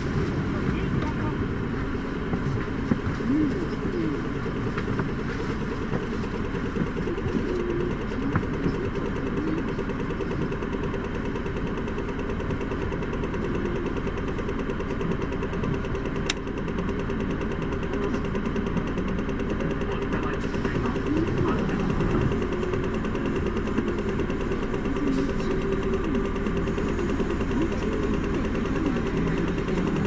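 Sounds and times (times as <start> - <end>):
bus diesel engine idling: 0.0 - 30.0.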